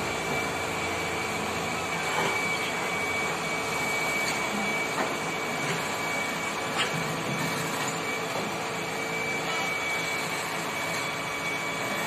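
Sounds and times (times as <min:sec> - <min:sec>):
diesel engine running: 0:00.0 - 0:10.8
high-pitched whine: 0:00.0 - 0:12.0.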